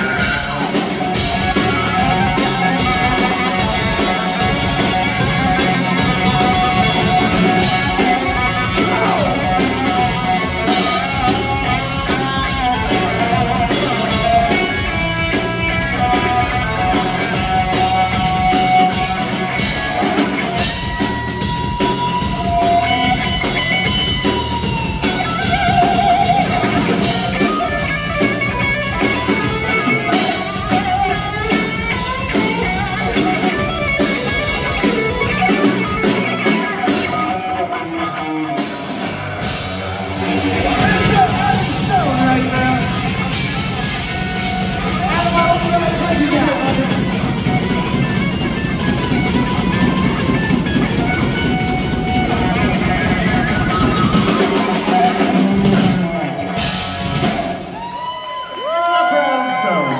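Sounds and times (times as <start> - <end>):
drums: 0.0 - 59.9
electric guitar lead: 0.0 - 59.9.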